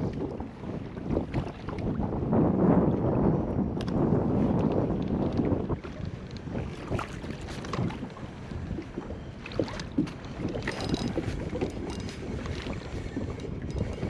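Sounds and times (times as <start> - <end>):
water lapping against kayak hull: 0.0 - 14.0
wind buffeting microphone: 0.0 - 14.0.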